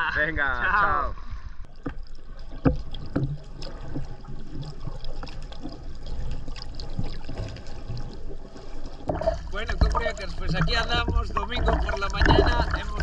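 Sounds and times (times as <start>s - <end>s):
seawater sloshing and gurgling: 0.9s - 13.0s.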